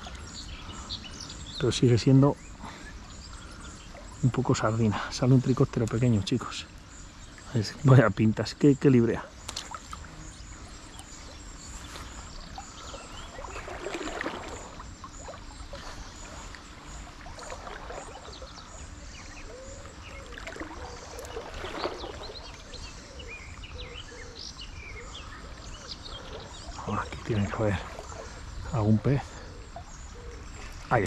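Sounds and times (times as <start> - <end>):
birds chirping: 0.0 - 31.0
river water running: 0.0 - 31.0.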